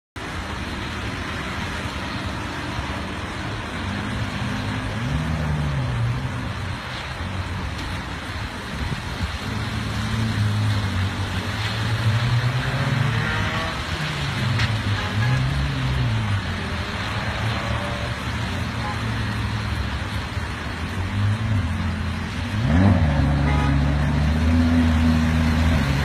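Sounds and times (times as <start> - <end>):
steady rushing noise: 0.2 - 22.6.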